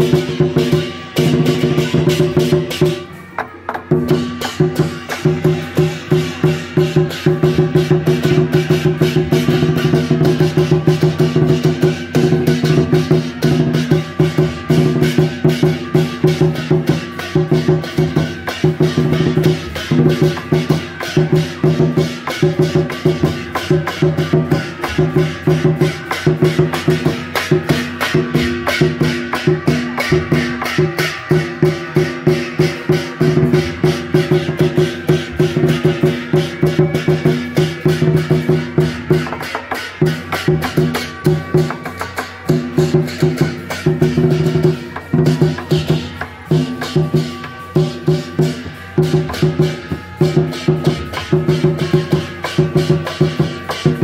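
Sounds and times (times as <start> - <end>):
drums gongs and cymbals beating: 0.0 - 54.0.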